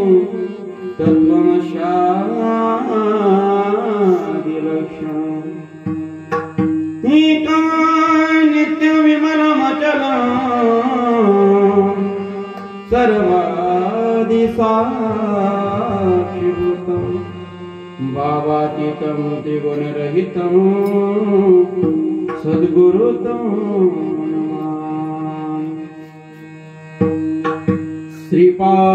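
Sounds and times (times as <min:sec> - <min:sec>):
man singing devotional song: 0:00.0 - 0:28.9.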